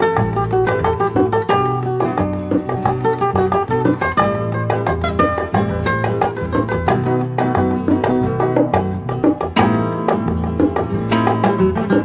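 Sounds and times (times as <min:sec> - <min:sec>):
instrumental music with percussion beat: 0:00.0 - 0:12.0.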